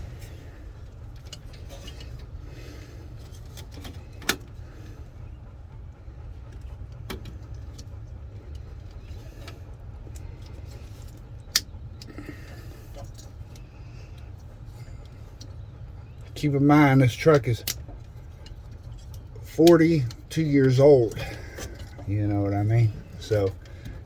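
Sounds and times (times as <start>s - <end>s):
steady low hum: 0.0s - 24.0s
wiring and plastic parts rattling: 0.0s - 24.0s.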